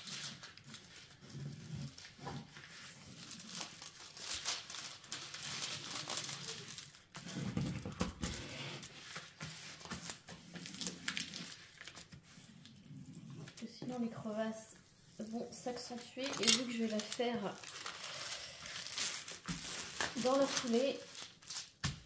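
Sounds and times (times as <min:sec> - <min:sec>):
plastic film crinkling: 0:00.0 - 0:22.0.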